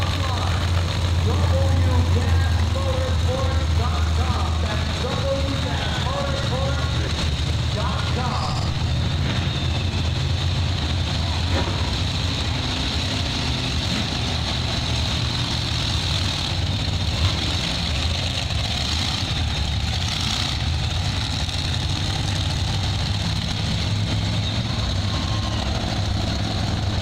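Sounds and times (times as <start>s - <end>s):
truck engines idling: 0.0s - 27.0s.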